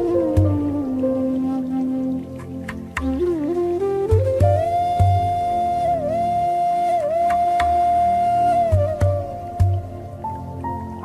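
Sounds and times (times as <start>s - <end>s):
flute-like melody: 0.0s - 11.0s.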